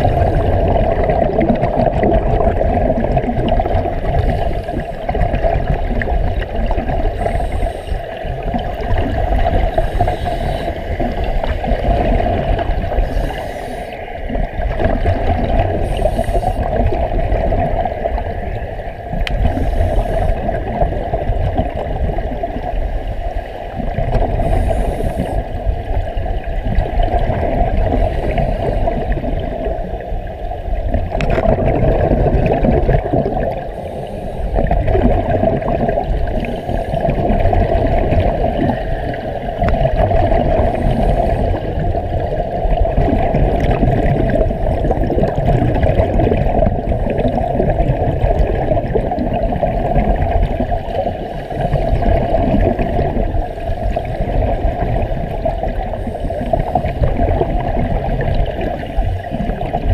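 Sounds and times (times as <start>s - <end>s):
steady low rumble: 0.0s - 59.9s
underwater breathing bubbles: 0.0s - 59.9s.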